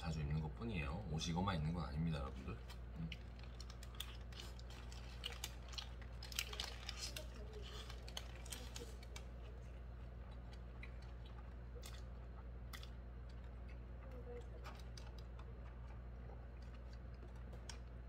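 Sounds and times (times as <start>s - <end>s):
steady low hum: 0.0s - 18.0s
soft chewing crunches: 1.2s - 18.0s.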